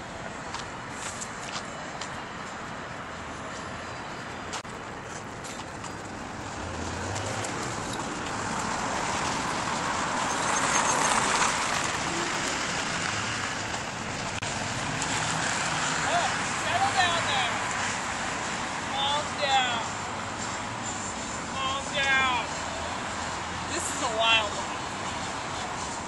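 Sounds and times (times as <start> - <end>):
car passing by: 3.2 - 26.0.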